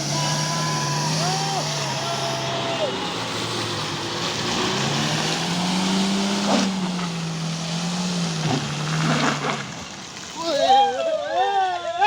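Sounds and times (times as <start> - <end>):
off-road vehicle engine revving: 0.0 - 10.7.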